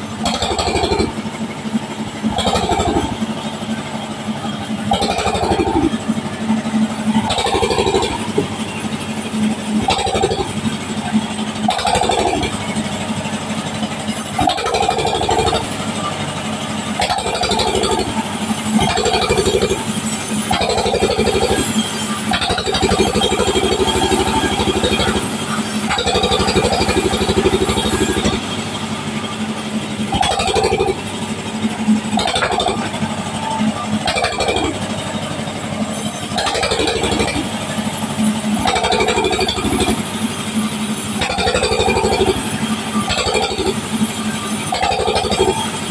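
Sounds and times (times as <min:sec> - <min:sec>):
sawmill saw engine drone: 0:00.0 - 0:45.9.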